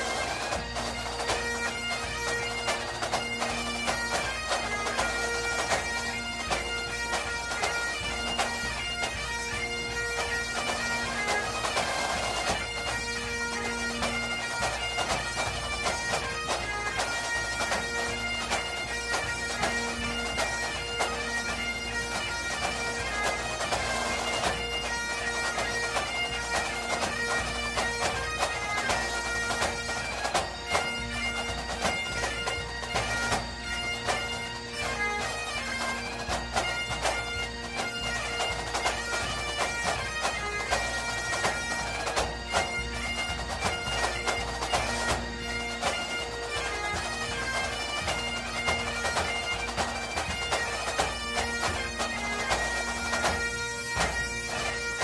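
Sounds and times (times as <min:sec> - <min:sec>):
bagpipe music: 0:00.0 - 0:55.0.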